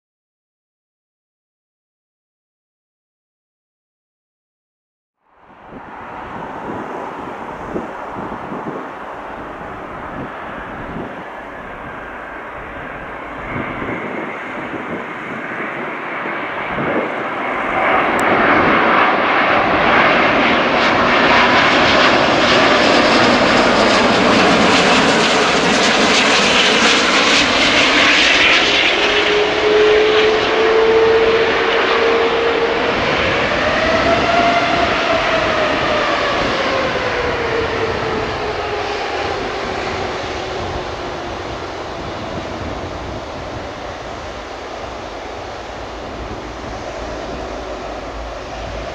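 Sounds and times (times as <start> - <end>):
jet airliner passing overhead: 5.3 - 48.9
whining engine tone: 5.6 - 48.9.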